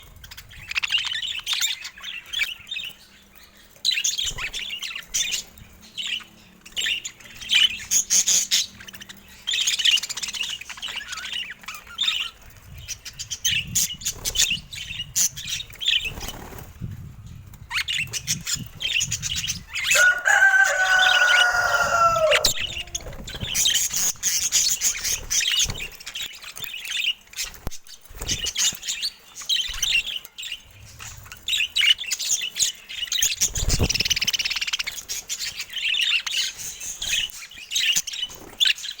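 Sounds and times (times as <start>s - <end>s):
budgerigars chirping and chattering: 0.0s - 39.0s.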